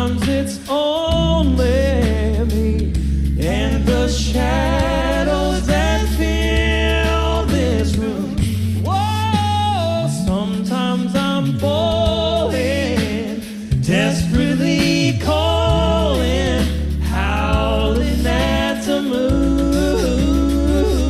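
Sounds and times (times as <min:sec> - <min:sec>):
a cappella group singing harmonies: 0:00.0 - 0:21.0.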